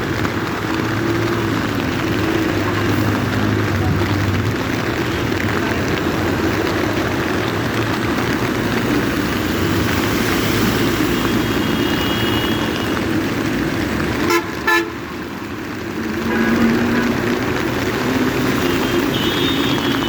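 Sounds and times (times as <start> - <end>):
heavy rain falling: 0.0 - 20.0
road traffic rumble: 0.0 - 20.0.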